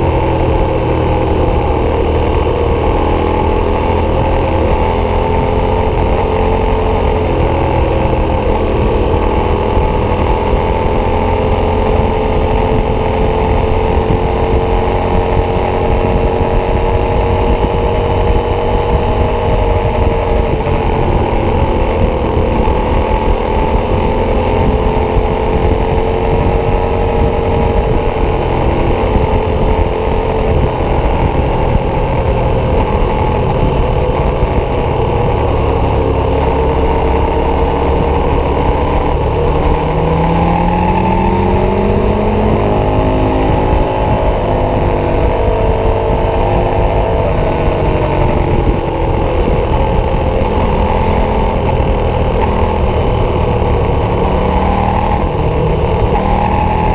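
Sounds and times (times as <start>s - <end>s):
motorcycle engine cruising: 0.0s - 56.9s
wind noise on microphone: 0.0s - 56.9s.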